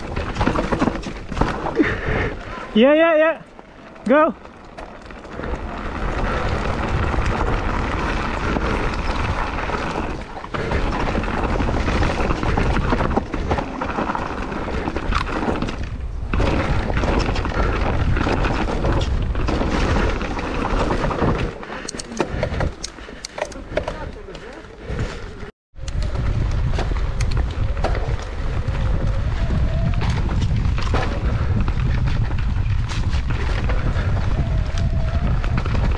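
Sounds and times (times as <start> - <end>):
wind rumble on microphone: 5.1 - 21.6, 22.3 - 35.9.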